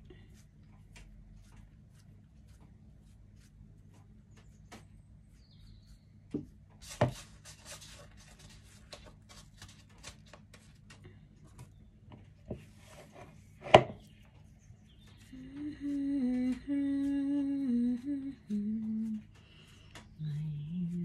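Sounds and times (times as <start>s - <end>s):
hands rubbing dough: 0.0s - 21.0s.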